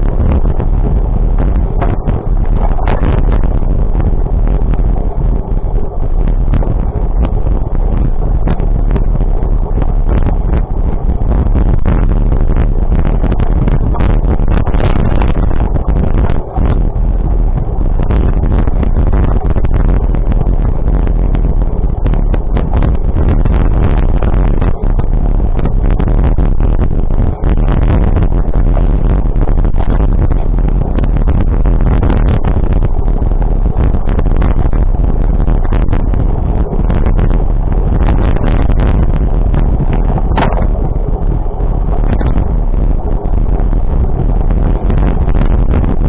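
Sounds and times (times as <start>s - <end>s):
vehicle rumble: 0.0s - 46.0s
wind buffeting microphone: 0.0s - 46.0s.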